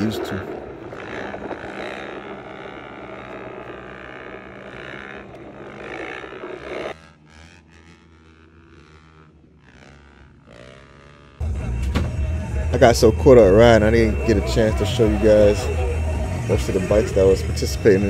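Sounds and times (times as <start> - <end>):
dirt bike engines running: 0.0 - 18.0.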